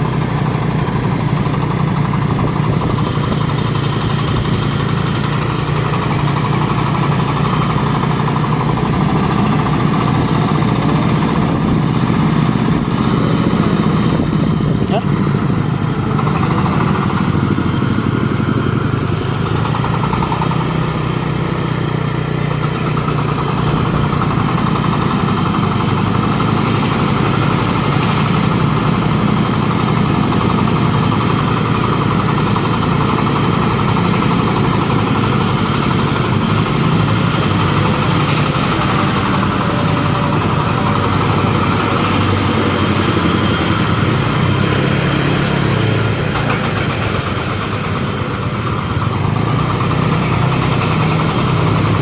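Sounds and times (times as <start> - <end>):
corn sheller engine running: 0.0 - 52.0.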